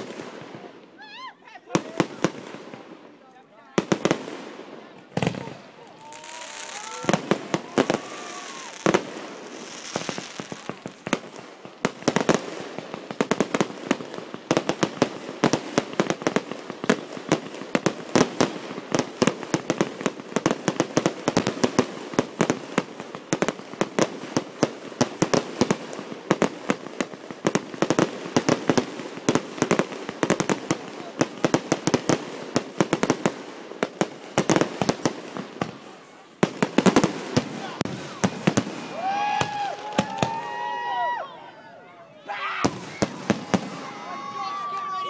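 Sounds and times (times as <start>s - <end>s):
fireworks popping and crackling: 0.0s - 0.9s, 1.7s - 40.9s, 42.6s - 45.0s.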